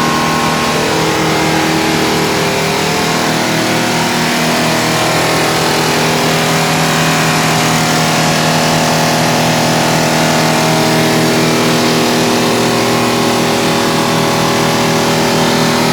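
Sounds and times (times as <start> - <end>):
broad machine noise: 0.0 - 15.9
stone crusher engine droning: 0.0 - 15.9.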